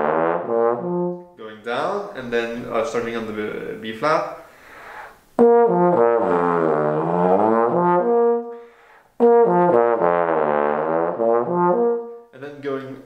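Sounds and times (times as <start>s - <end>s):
bass trombone bending notes: 0.0s - 4.0s, 5.4s - 8.5s, 9.2s - 12.8s.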